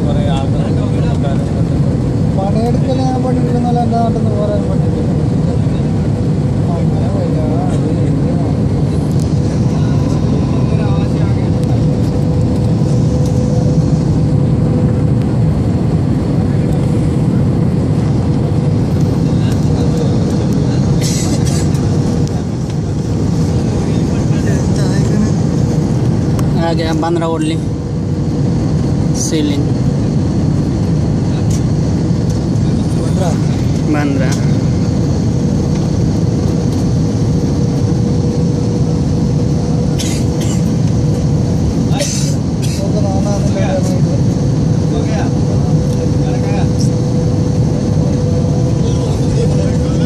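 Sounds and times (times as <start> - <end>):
airliner cabin engine rumble: 0.0 - 50.0.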